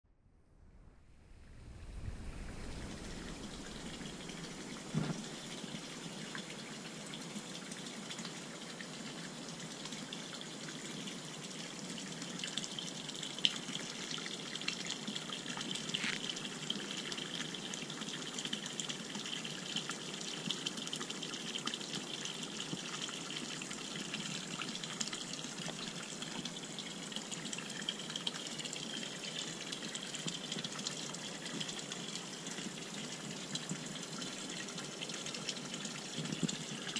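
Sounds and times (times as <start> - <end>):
water pouring into a pond: 1.4 - 36.9.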